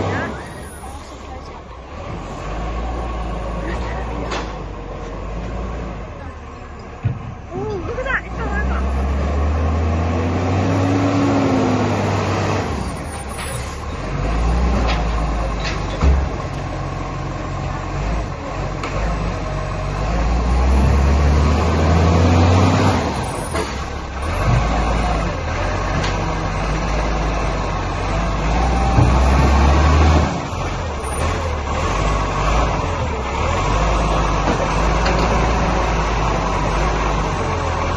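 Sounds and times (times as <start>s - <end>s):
diesel truck engine revving: 0.0s - 37.9s.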